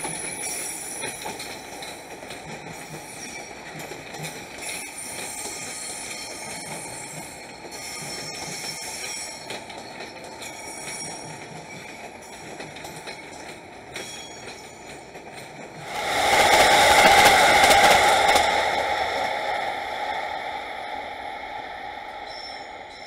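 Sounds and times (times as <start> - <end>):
wheels clicking over rail joints: 0.0 - 19.4
wheels rumbling on rail: 0.0 - 23.0.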